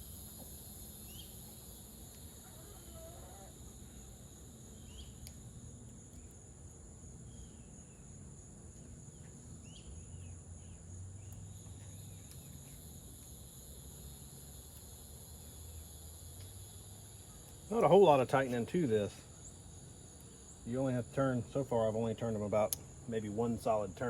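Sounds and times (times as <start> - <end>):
high-pitched insect chorus: 0.0 - 24.0
low background hum: 0.0 - 24.0
short insect chirps: 0.0 - 24.0.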